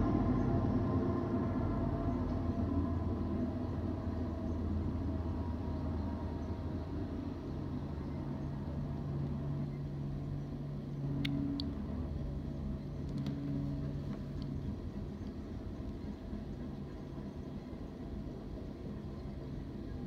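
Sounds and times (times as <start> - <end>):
constant low hum: 0.0 - 20.0
train rolling past: 0.0 - 20.0.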